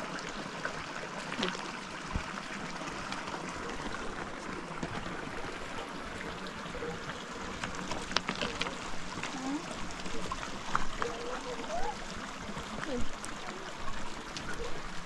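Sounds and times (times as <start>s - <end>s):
stream running over stones: 0.0s - 15.0s.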